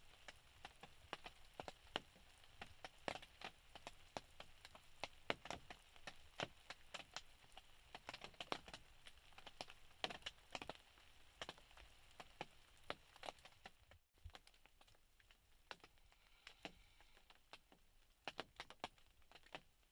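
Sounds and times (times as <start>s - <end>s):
drips ticking on a roof: 0.0s - 19.9s
faint rain hiss: 0.0s - 19.9s.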